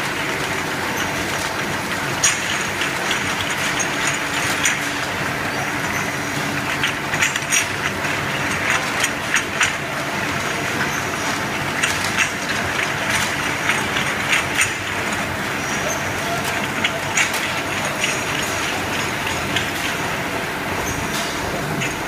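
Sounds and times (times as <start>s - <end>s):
machinery running: 0.0s - 22.0s.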